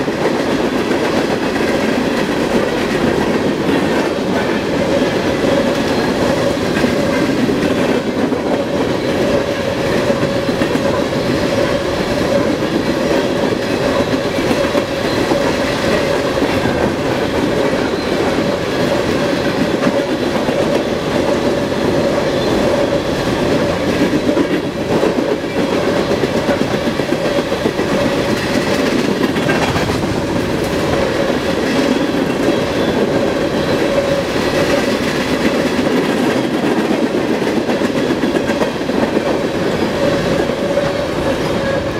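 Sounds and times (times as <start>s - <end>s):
train wheels rolling on rail: 0.0s - 41.9s.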